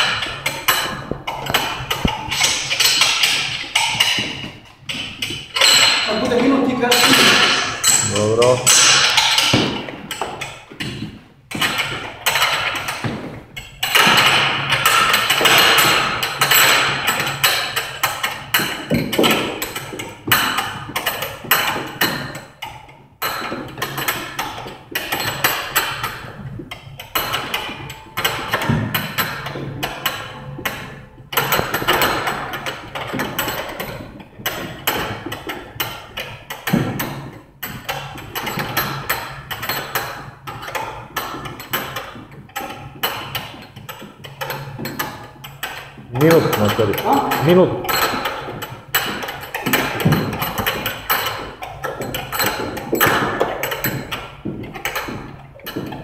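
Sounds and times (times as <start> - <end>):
battle rope slapping floor: 0.0 - 56.0.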